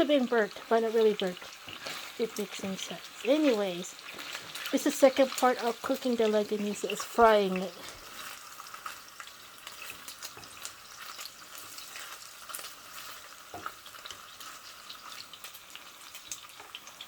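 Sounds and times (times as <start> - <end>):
sausages sizzling in oil: 0.0 - 17.0.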